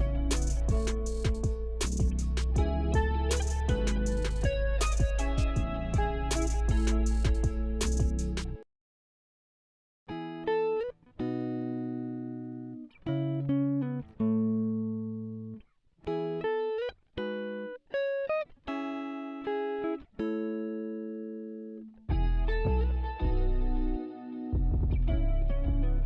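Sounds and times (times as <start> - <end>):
plucked guitar notes and chords: 0.0 - 8.6, 10.1 - 26.0.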